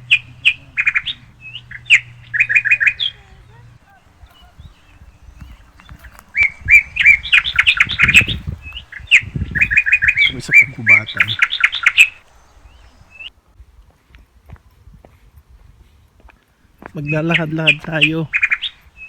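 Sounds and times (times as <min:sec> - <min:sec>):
bird chirping: 0:00.0 - 0:13.4, 0:16.6 - 0:19.0.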